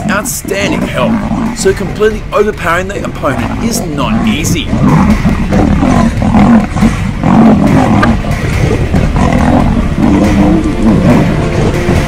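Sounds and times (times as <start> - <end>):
big cats growling and snarling: 0.0 - 12.0.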